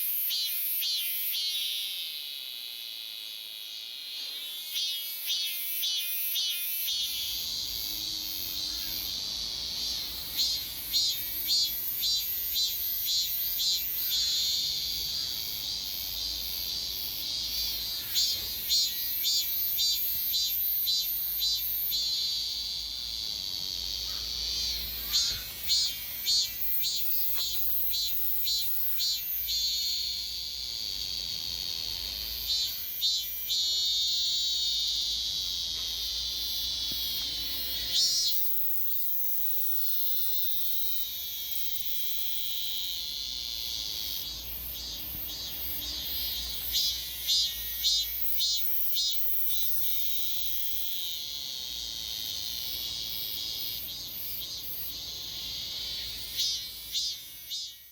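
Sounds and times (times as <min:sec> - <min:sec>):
cicada pulsing and buzzing: 0:00.0 - 0:57.9.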